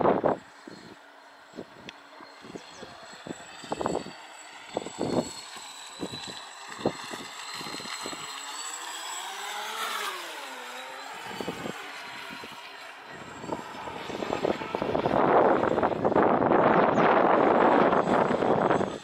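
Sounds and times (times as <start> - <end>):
model boat motor whining: 0.0 - 19.0.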